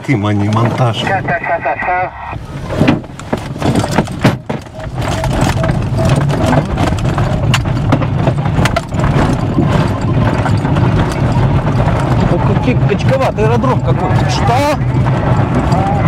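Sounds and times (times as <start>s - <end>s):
low rumble: 0.0s - 16.0s
airframe knocks and rattles: 2.7s - 16.0s.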